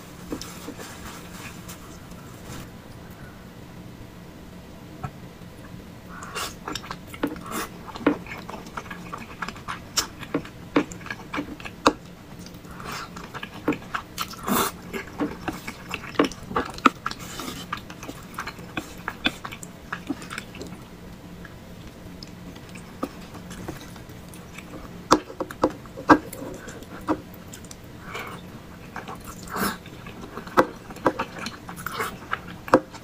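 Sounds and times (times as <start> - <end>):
chewing with wet mouth clicks: 6.2 - 33.0.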